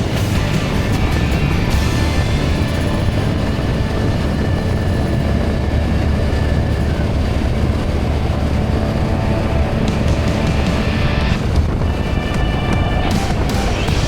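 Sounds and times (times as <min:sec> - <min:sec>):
motorcycle engine running: 0:00.0 - 0:14.0
rushing wind: 0:00.0 - 0:14.0.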